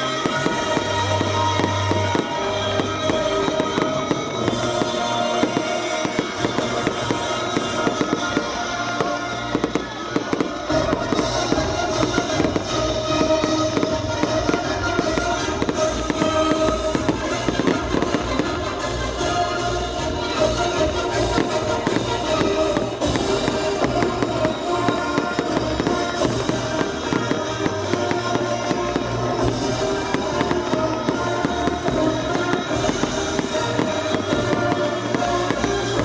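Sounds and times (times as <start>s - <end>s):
fireworks bursting and crackling: 0.0s - 36.0s
loud music: 0.0s - 36.0s.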